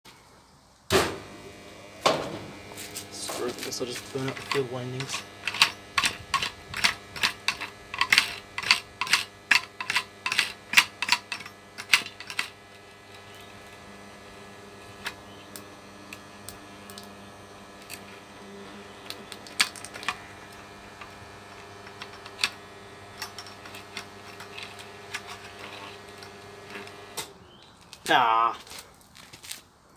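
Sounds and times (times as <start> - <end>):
electrical hum: 0.9 - 27.4.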